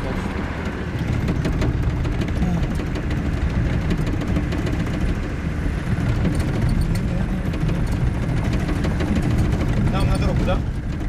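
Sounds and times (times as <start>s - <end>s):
engine running: 0.0s - 11.0s
wheels knocking over sleepers: 0.0s - 11.0s.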